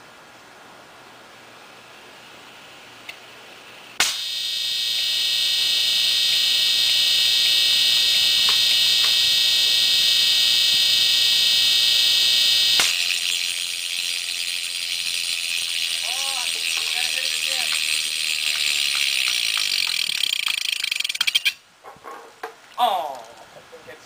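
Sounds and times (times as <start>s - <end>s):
hard drive high-pitched whine: 0.0s - 21.6s.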